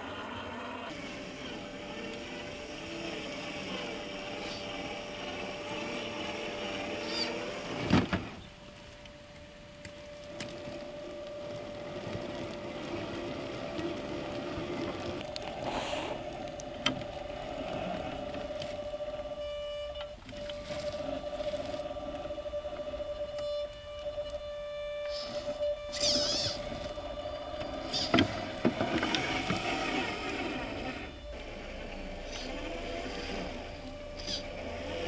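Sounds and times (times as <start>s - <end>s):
electric motor whining: 0.0s - 35.0s.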